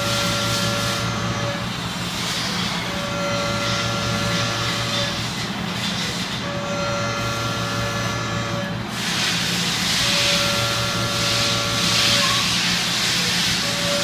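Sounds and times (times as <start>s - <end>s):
cnc machine spindle machining steel: 0.0s - 14.0s.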